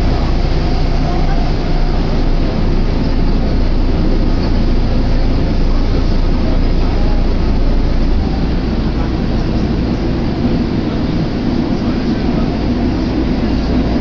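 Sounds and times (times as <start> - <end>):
subway train rumble in tunnel: 0.0 - 14.0.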